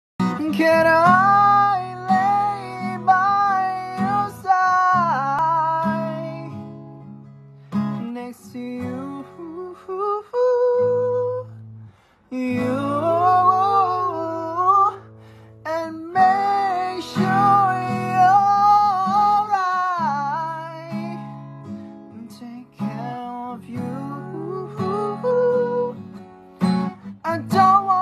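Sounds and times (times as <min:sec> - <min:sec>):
man singing a slow ballad: 0:00.2 - 0:06.6, 0:07.9 - 0:11.6, 0:12.2 - 0:26.2, 0:27.0 - 0:28.0
acoustic guitar chords: 0:00.2 - 0:28.0.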